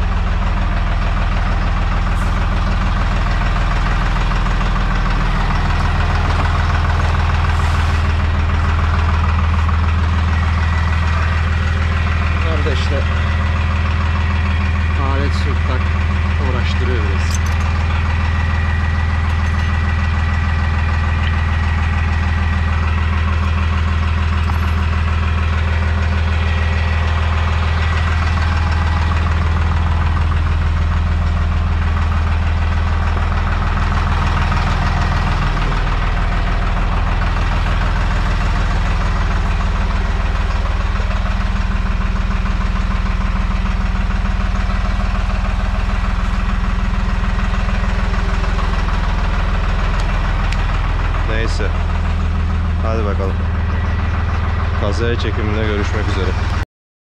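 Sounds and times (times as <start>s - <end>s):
tractor diesel engine running: 0.0s - 56.6s.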